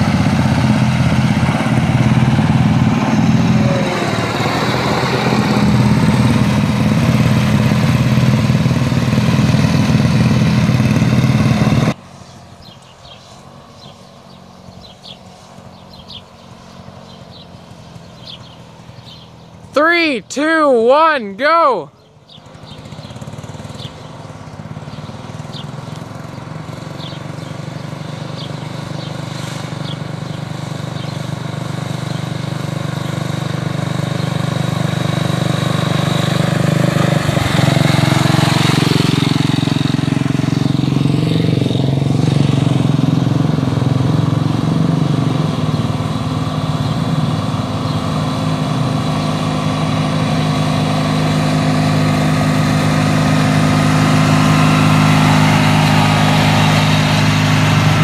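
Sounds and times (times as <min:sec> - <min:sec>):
garden tractor engines racing: 0:00.0 - 0:58.0.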